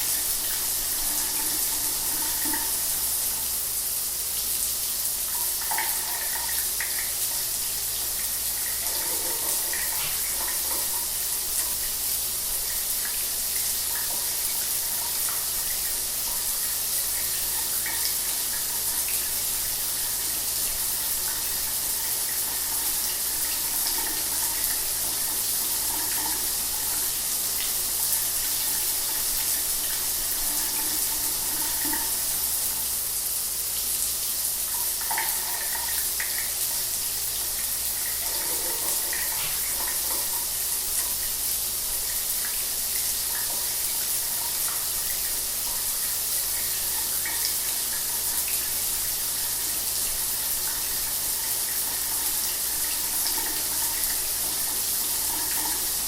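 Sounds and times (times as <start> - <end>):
shower water spraying: 0.0 - 56.0.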